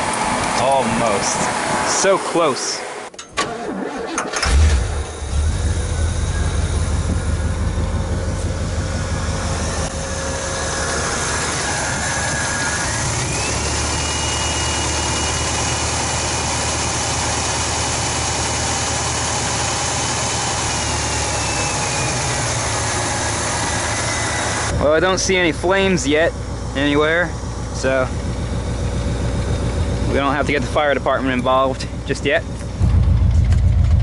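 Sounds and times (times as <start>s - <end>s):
rising engine whine: 0.0s - 3.1s, 3.7s - 34.0s
car engine running: 4.4s - 34.0s.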